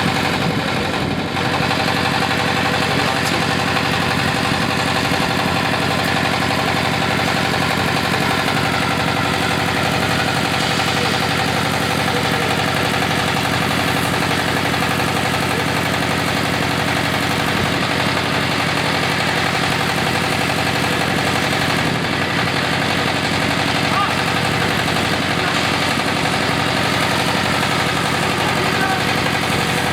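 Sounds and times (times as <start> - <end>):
drilling rig engine running: 0.0 - 29.9.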